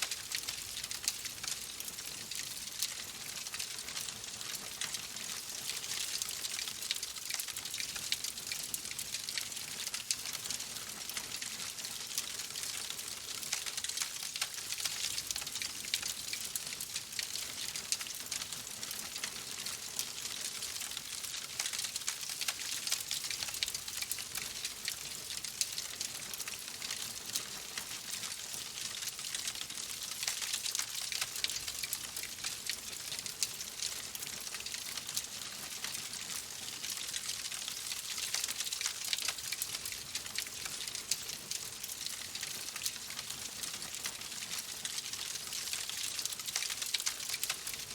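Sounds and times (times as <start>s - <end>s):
fireplace fire crackling: 0.0s - 8.7s, 9.3s - 47.9s.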